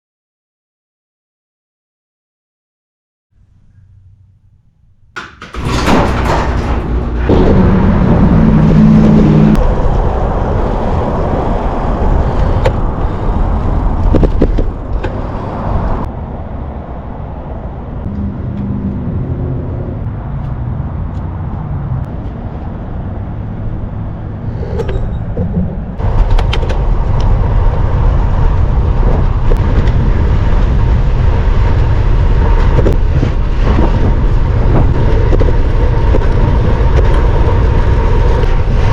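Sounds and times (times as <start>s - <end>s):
road and tyre noise: 5.1s - 38.9s
wind rushing over microphone: 5.5s - 38.9s.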